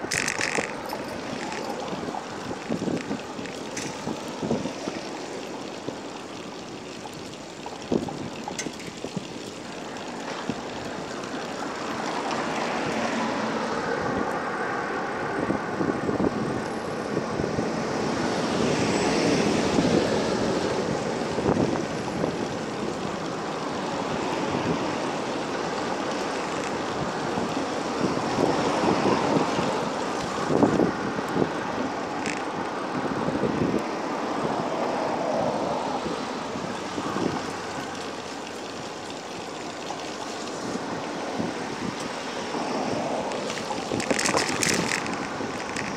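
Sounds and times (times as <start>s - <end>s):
road traffic rushing: 0.0s - 45.9s.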